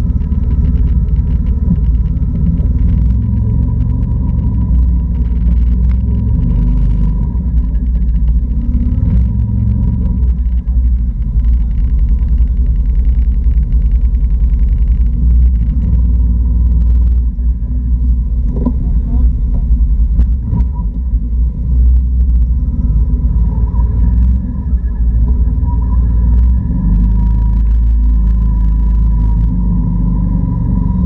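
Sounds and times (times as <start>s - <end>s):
atv engine rumble: 0.0s - 31.0s.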